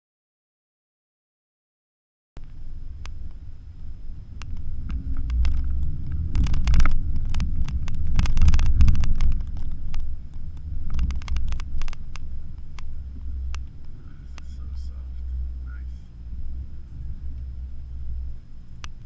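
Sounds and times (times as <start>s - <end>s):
car knocking over ruts: 2.4s - 19.0s
tyres rumbling on dirt road: 2.4s - 19.0s.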